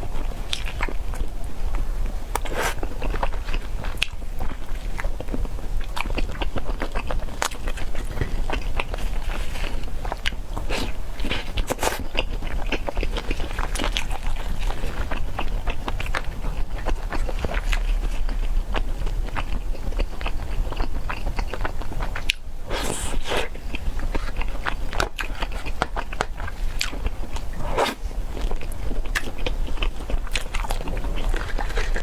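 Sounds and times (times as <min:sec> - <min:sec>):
chewing and biting food: 0:00.1 - 0:32.0.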